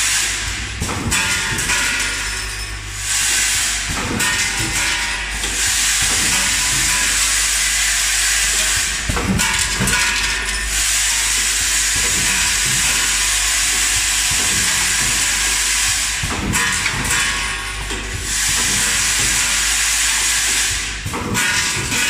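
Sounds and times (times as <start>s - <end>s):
machine hissing: 0.0s - 22.0s
machine knocks and clicks: 0.4s - 2.7s, 3.6s - 10.7s, 11.3s - 22.0s.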